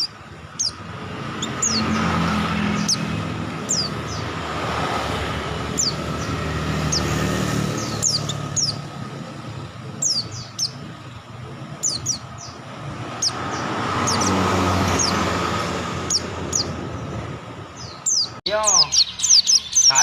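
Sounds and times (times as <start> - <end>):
passing engine hum: 0.0 - 18.4
bird high chirps: 0.0 - 20.0.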